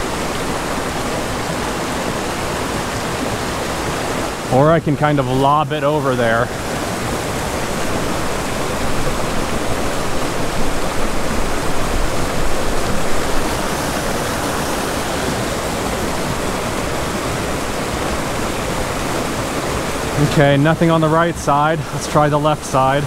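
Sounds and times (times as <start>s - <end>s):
water cascading into pool: 0.0s - 23.0s.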